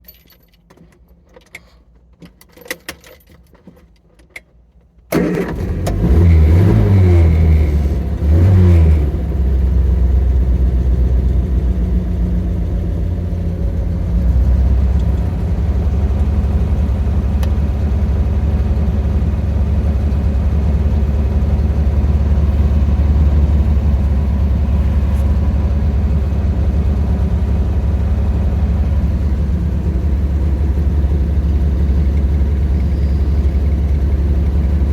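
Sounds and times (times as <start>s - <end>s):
car engine starting and idling: 4.8s - 34.9s.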